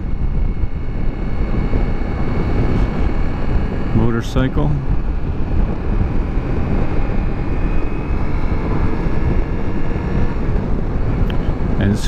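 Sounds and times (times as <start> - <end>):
motorcycle engine accelerating: 0.0 - 12.0
wind and road noise: 0.0 - 12.0.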